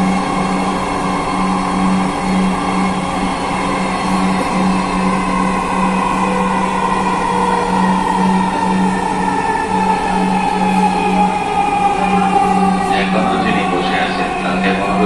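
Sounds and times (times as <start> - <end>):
electric train running: 0.0 - 15.0
electric whine: 0.0 - 15.0
pulsing low hum: 0.0 - 15.0.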